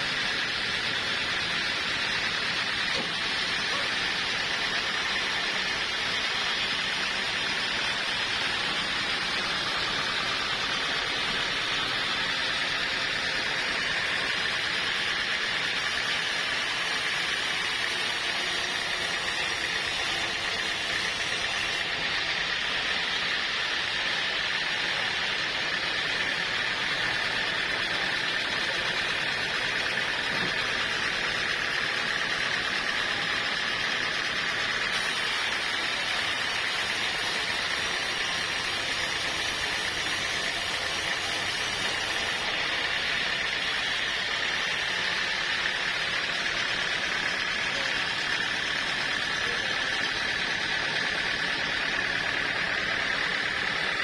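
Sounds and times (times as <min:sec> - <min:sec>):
sawmill saw whining: 0:00.0 - 0:54.0.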